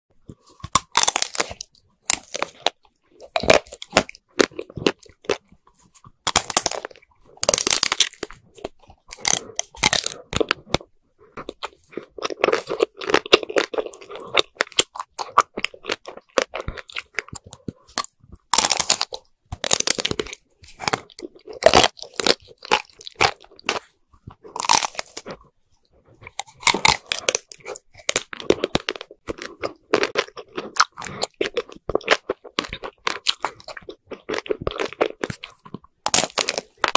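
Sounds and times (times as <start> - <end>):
chewing: 0.2 - 36.9
chocolate coating cracking: 0.6 - 5.5, 6.2 - 25.4, 26.3 - 36.9.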